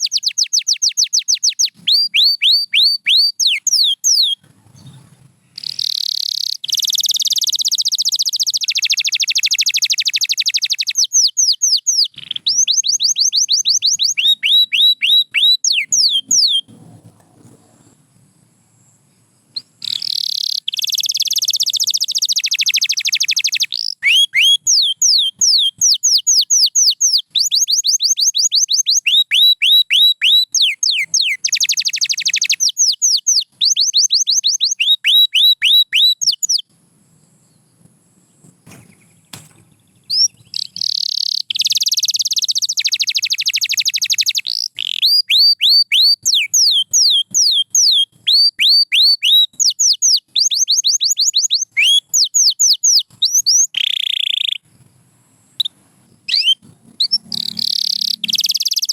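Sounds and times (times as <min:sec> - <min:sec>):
canary singing: 0:00.0 - 0:18.0, 0:19.4 - 0:36.7, 0:37.3 - 0:54.7, 0:55.6 - 0:58.9.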